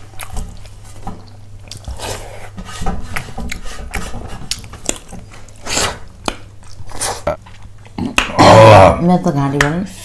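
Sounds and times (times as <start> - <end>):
chewing and smacking: 0.0 - 8.4.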